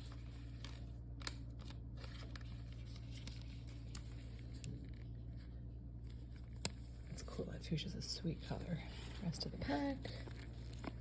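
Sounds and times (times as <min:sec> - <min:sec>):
card rustling and clicking: 0:00.0 - 0:07.3, 0:09.0 - 0:11.0
low steady hum: 0:00.0 - 0:11.0.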